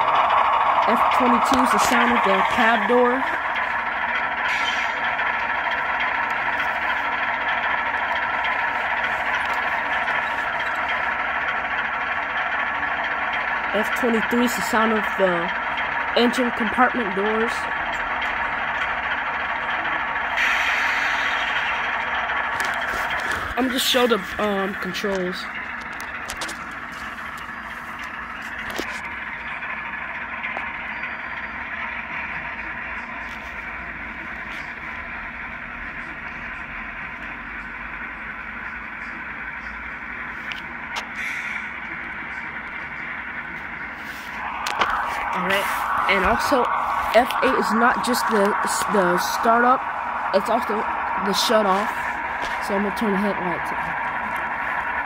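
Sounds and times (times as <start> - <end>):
model locomotive diesel engine sound: 0.0 - 55.0.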